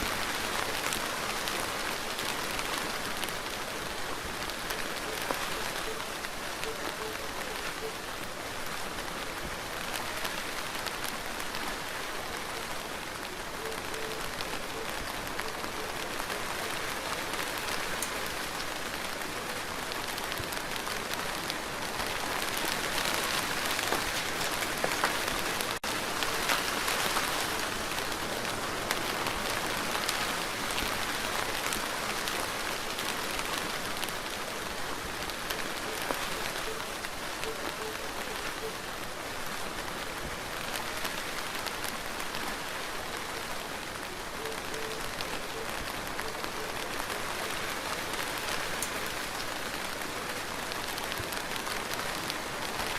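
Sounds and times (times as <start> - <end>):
rain falling on a surface: 0.0 - 52.9.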